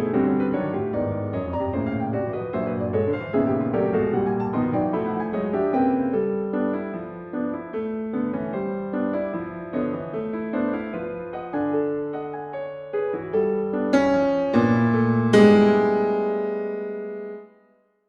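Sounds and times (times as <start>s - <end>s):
solo piano chords: 0.0s - 17.8s.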